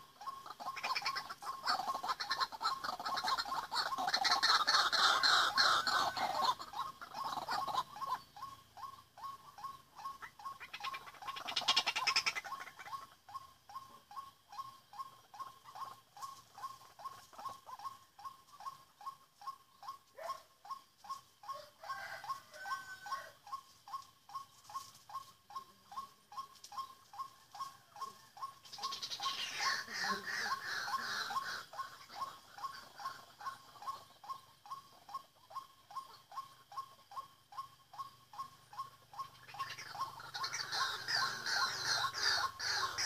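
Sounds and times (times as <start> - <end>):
waterhen calling: 0.0 - 19.2, 27.6 - 43.0.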